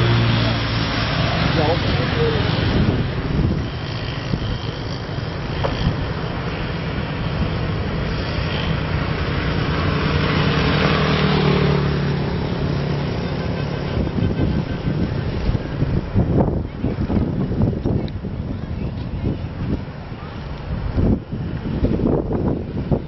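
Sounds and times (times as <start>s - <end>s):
vehicle driving on road: 0.0s - 23.0s.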